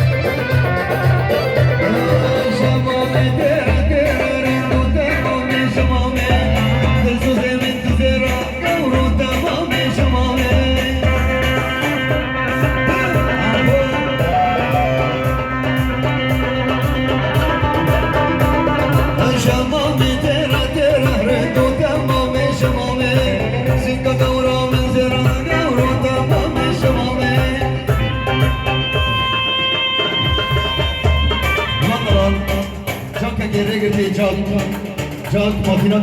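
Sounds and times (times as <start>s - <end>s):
electronic keyboard melody: 0.0s - 35.7s
drum machine beat: 0.0s - 36.0s.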